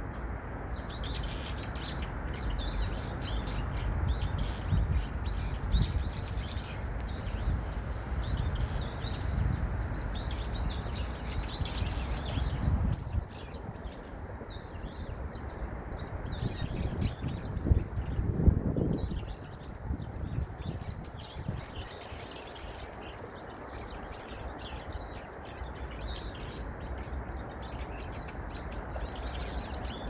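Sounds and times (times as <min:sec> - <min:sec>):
small birds chirping: 0:00.7 - 0:30.0.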